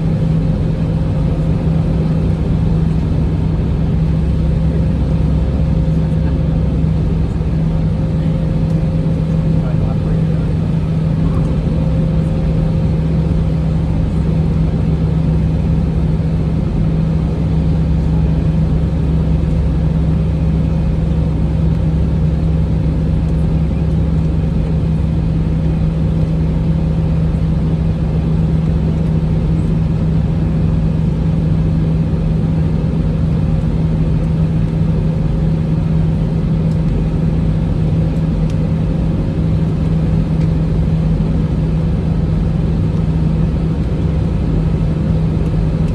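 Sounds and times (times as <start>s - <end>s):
jet engines droning: 0.0s - 45.9s.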